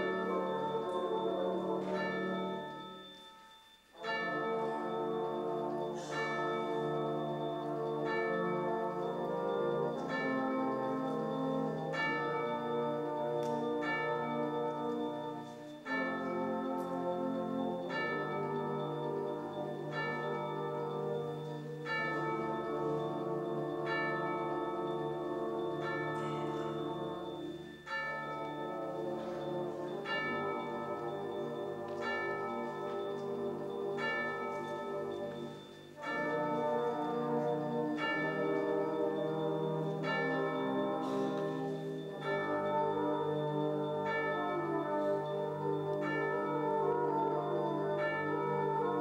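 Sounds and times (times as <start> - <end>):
tubular bells tolling: 0.0 - 49.0
wind band sustained chords: 0.0 - 49.0.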